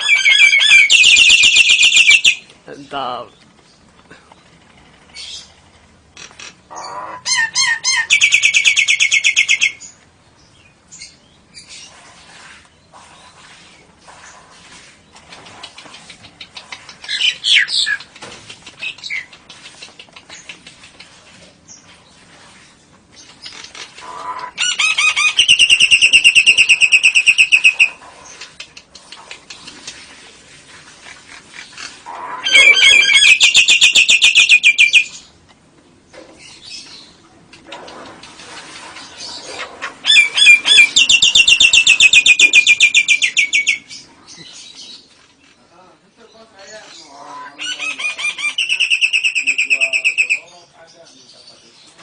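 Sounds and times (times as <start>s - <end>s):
birds chirping: 0.0s - 30.4s, 31.0s - 52.0s
birds chattering trills: 0.0s - 52.0s.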